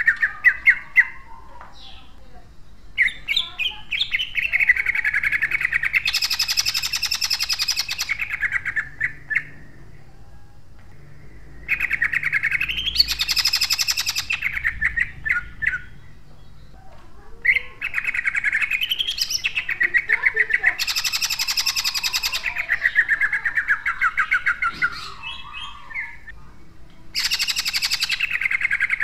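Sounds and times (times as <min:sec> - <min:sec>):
bird singing rapid harsh bursts: 0:00.0 - 0:10.2, 0:11.0 - 0:26.4, 0:27.1 - 0:29.0.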